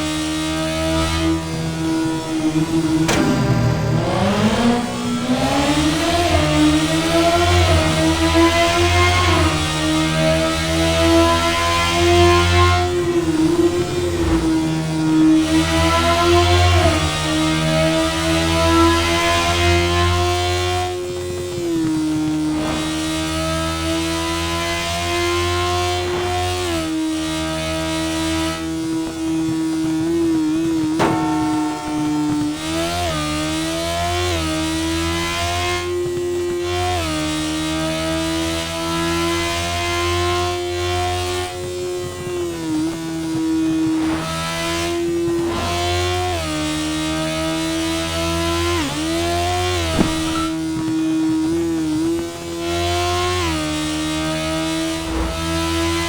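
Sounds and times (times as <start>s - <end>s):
motorcycle engine revving high: 0.0s - 56.0s.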